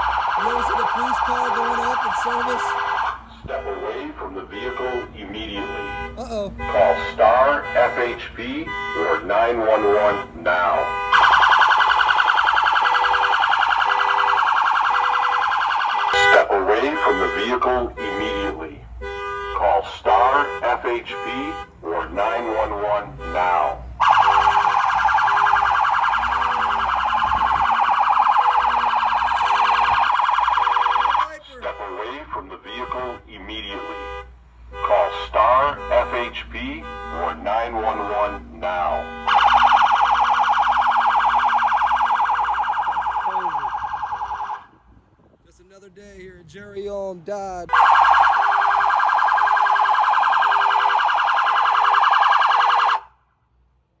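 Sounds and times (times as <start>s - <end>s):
car alarm warbling siren: 0.0s - 5.6s, 6.2s - 18.4s, 19.6s - 33.1s, 34.8s - 44.9s, 47.7s - 53.2s.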